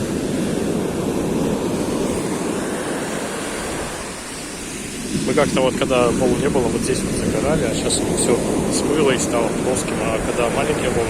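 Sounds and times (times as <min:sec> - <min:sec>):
sea waves breaking: 0:00.0 - 0:11.0
wind buffeting microphone: 0:00.0 - 0:11.0.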